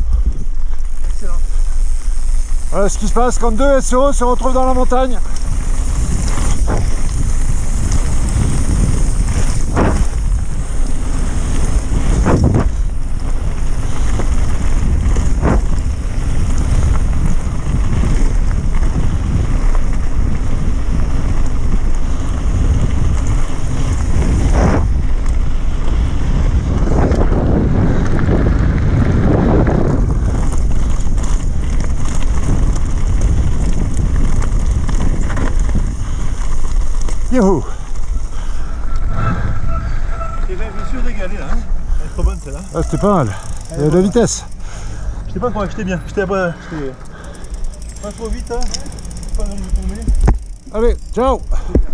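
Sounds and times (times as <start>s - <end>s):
bike knocks and rattles: 0.0s - 39.1s, 47.0s - 51.9s
tyres on loose gravel: 0.0s - 51.9s
wind buffeting microphone: 0.0s - 51.9s.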